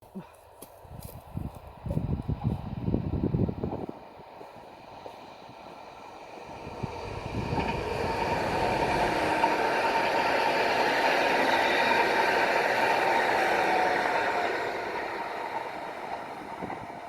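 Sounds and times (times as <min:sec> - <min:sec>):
train wheels on rails: 0:00.2 - 0:17.0.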